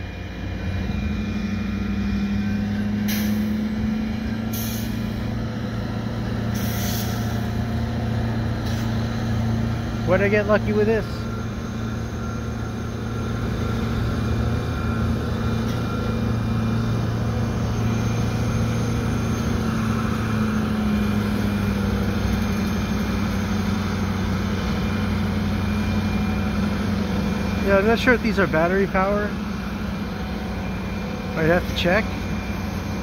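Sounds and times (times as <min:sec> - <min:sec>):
diesel locomotive engine drone: 0:00.0 - 0:33.0.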